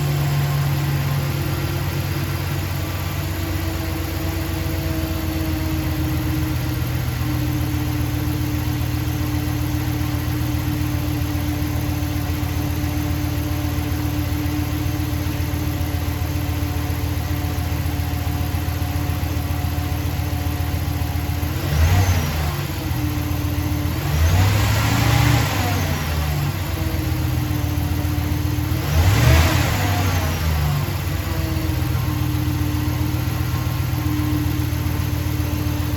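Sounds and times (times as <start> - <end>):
engine idling and revving: 0.0 - 35.9.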